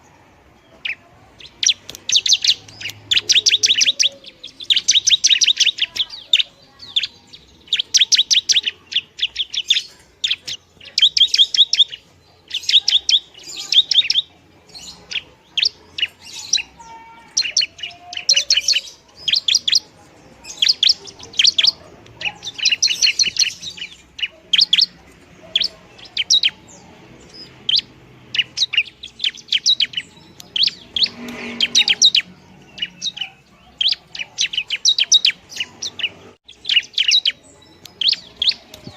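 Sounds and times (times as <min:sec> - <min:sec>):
shrike chattering song: 0:00.0 - 0:38.9.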